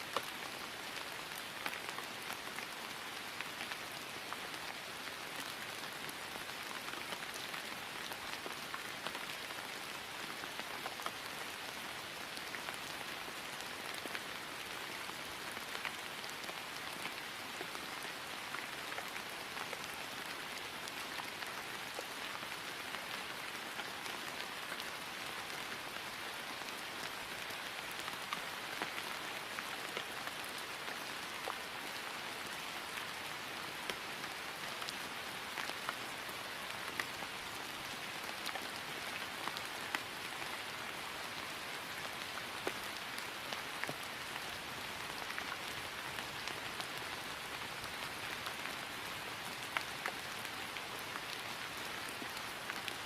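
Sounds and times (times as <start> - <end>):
steady rain on grass: 0.0 - 53.0.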